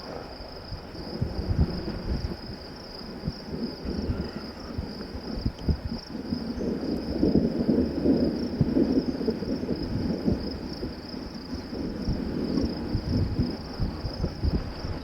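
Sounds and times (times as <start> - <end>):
distant thunder rumbling: 0.0 - 15.0
high insect drone: 0.0 - 15.0
wind buffeting microphone: 0.0 - 15.0.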